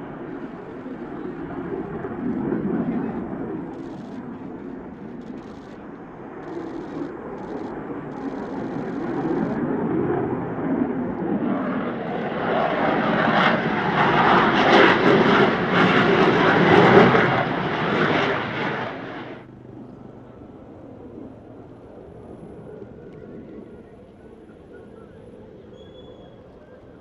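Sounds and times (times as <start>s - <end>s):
jet flying past: 0.0s - 27.0s.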